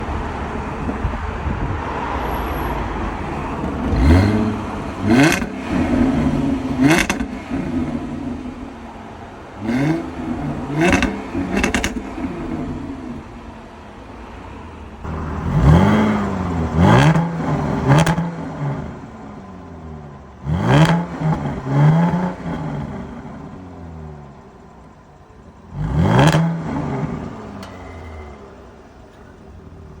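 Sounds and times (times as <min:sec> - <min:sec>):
car exhaust revving: 0:00.0 - 0:30.0.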